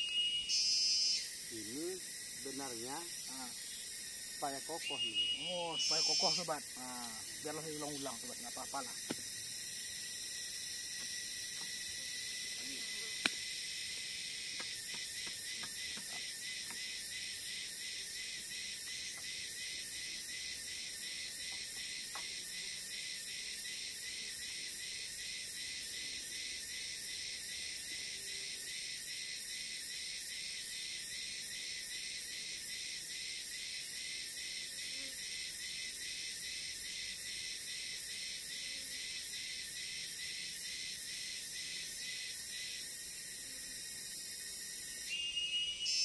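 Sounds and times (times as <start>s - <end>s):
insects chirping in chorus: 0.0s - 46.0s.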